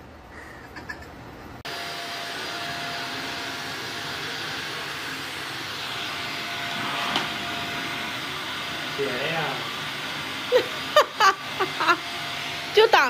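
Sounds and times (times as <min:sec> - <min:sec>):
stick vacuum cleaner running: 0:01.6 - 0:13.0.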